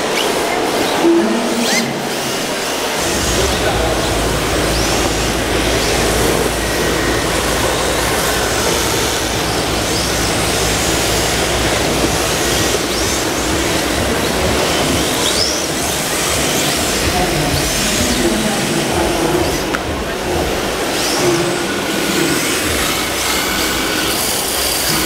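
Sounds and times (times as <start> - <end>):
electric rc cars whirring: 0.0 - 25.0.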